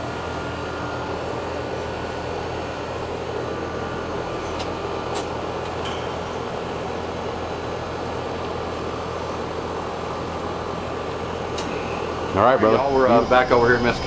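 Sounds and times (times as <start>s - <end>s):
air conditioner unit whooshing: 0.0s - 14.0s.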